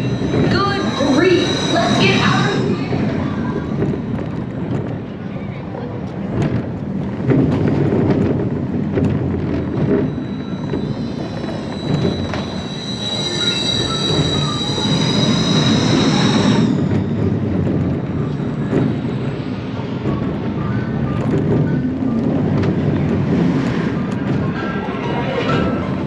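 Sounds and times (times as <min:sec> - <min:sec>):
roller coaster rumbling on track: 0:00.0 - 0:26.0.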